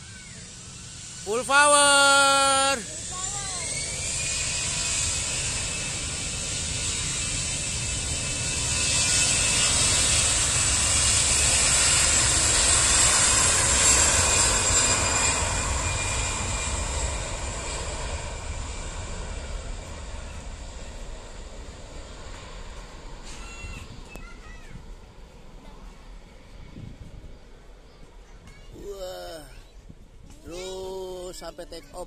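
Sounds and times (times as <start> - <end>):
jet engines roaring at takeoff: 0.0 - 32.0.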